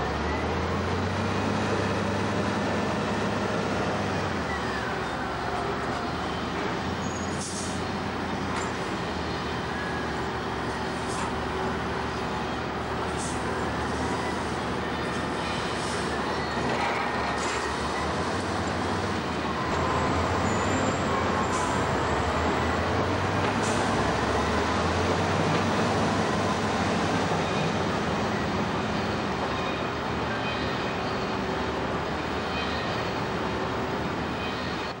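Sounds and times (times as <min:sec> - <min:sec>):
heavy diesel engines running: 0:00.0 - 0:35.0.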